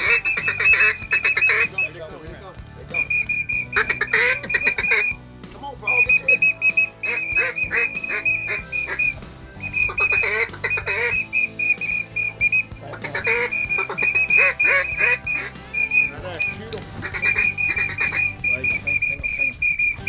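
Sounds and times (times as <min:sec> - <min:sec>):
duck quacking: 0:00.0 - 0:01.9, 0:02.9 - 0:05.2, 0:05.9 - 0:20.0
high whistle notes: 0:00.0 - 0:02.0, 0:02.9 - 0:05.2, 0:05.8 - 0:16.6, 0:17.2 - 0:20.0.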